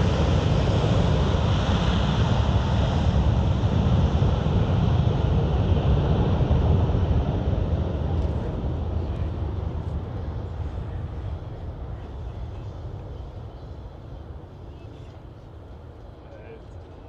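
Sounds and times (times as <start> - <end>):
jet engines deep rumble: 0.0 - 17.0.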